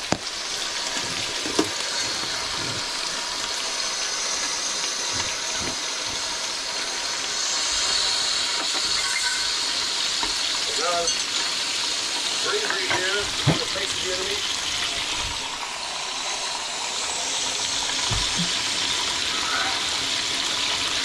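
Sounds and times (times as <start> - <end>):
burger patties sizzling: 0.0 - 21.0.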